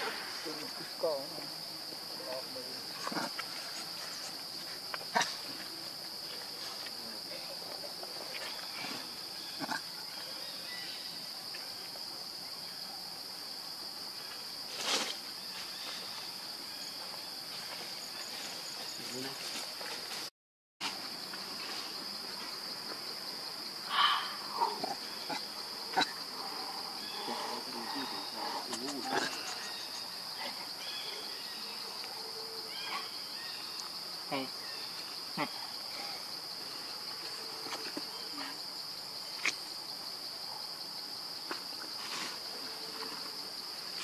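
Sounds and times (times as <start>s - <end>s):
insects droning: 0.0s - 44.0s.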